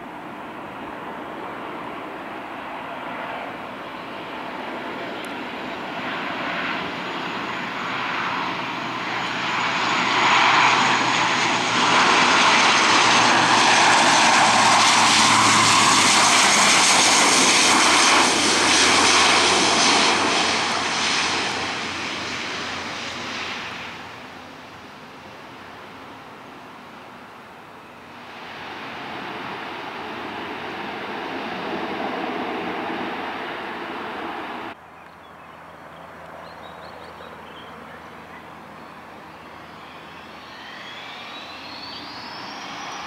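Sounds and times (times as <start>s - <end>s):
turboprop aircraft passing: 0.0s - 43.0s.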